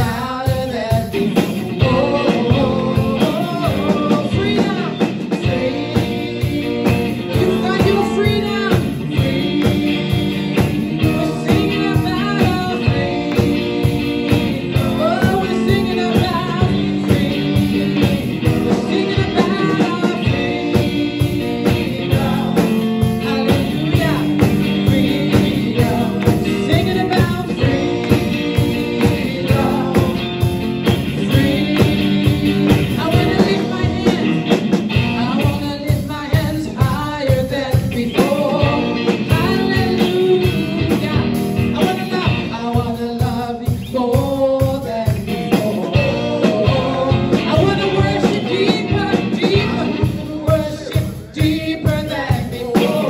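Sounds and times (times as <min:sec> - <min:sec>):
woman singing: 0:00.0 - 0:30.3, 0:30.9 - 0:53.0
drum beat: 0:00.0 - 0:53.0
electric guitar: 0:00.0 - 0:53.0.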